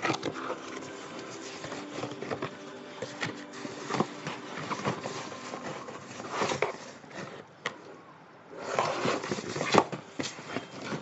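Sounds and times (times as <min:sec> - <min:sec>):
handling knocks and rustling: 0:00.0 - 0:07.8, 0:08.7 - 0:11.0.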